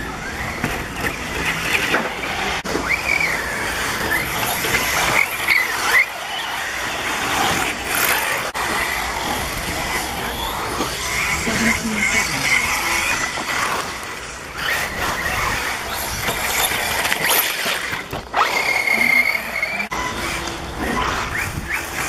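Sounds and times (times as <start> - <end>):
high-pitched motor whine: 0.0 - 22.0.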